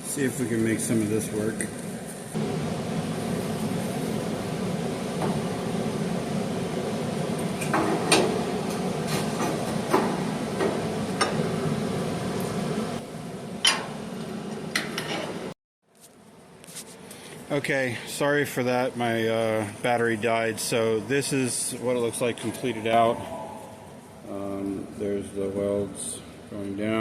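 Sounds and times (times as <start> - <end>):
steady low hum: 0.0 - 15.6, 16.3 - 27.0.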